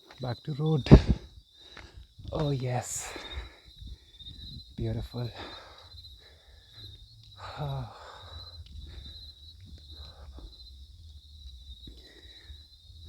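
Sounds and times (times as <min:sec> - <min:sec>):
faint footsteps: 0:00.0 - 0:13.0
insects chirring: 0:00.0 - 0:13.0
low rumble: 0:02.0 - 0:13.0.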